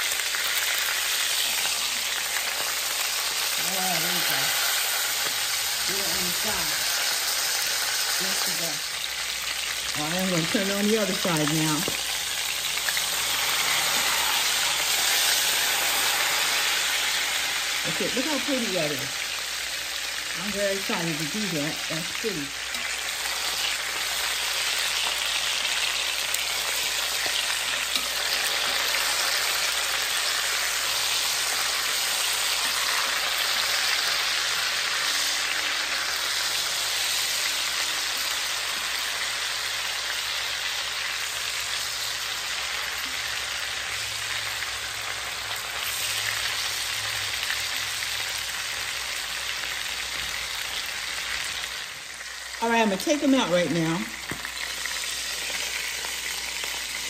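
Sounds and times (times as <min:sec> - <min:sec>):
meat sizzling in butter: 0:00.0 - 0:57.0.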